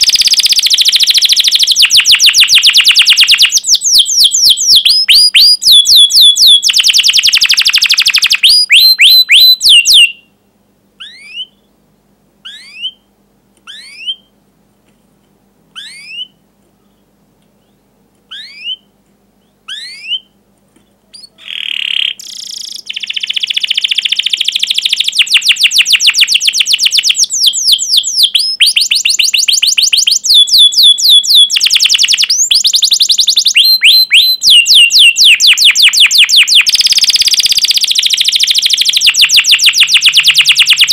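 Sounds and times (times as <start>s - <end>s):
canary sharp rising chirps: 0.0s - 10.3s, 11.0s - 11.7s, 12.4s - 14.3s, 15.7s - 16.4s, 18.3s - 20.4s, 21.1s - 40.9s
canary trilling song: 0.0s - 11.8s, 12.4s - 14.4s, 15.7s - 40.9s.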